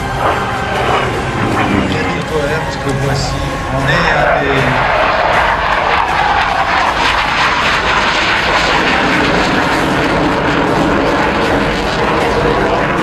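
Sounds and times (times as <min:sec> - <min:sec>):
jet flying past: 0:00.0 - 0:13.0.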